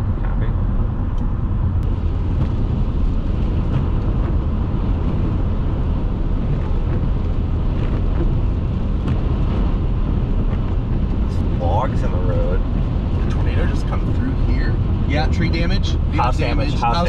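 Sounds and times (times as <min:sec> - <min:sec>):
car engine drone: 0:00.0 - 0:17.0
tyres on wet road: 0:00.0 - 0:17.0.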